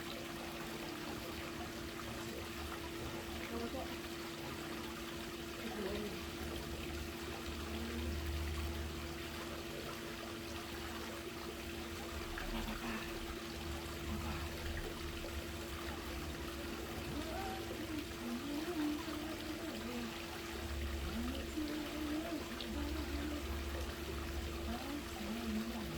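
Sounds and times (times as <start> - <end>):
pool water trickling and lapping: 0.0 - 25.9
steady low hum: 0.0 - 25.9.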